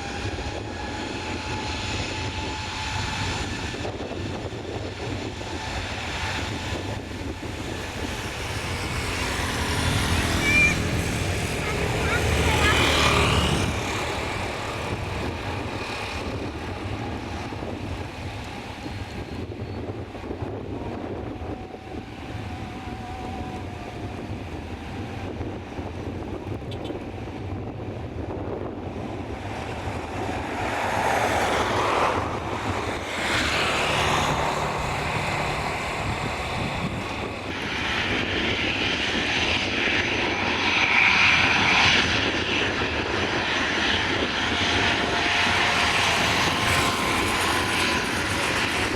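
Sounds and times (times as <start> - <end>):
airliner engines rumbling: 0.0 - 48.9.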